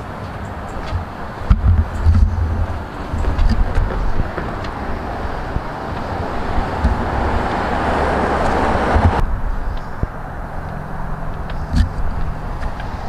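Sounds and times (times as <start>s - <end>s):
low thumps: 0.0s - 13.0s
train wheels rumbling on rail: 0.0s - 13.0s.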